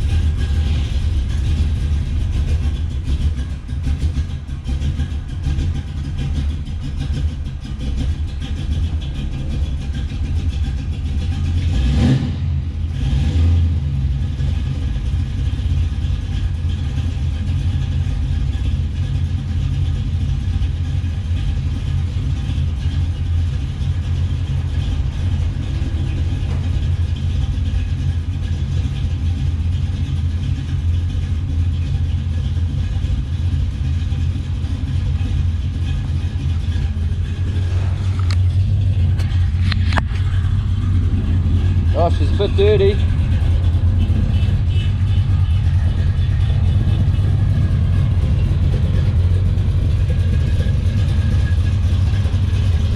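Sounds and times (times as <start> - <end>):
deep rumbling car engine: 0.0 - 52.9.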